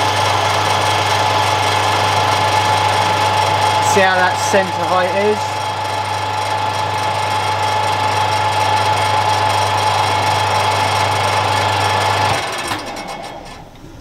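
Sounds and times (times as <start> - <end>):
lathe running with whine and hum: 0.0 - 13.9.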